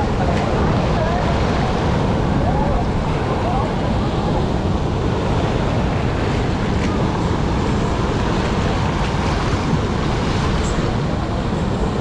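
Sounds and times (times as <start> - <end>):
water rushing through channel: 0.0 - 12.0.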